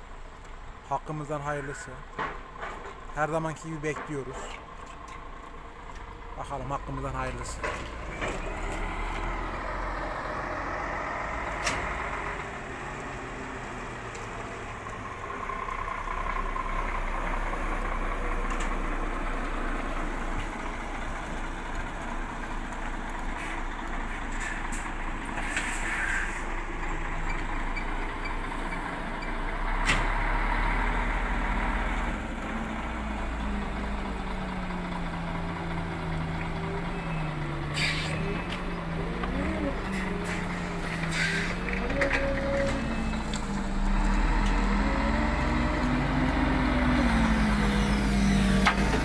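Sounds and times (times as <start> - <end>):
diesel truck engines rumbling: 0.0 - 49.0
truck engine pulling forward: 0.0 - 49.0.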